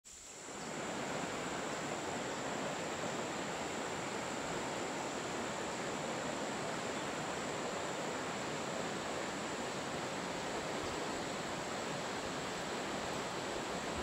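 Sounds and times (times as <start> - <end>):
river rushing over rocks: 0.2 - 14.0.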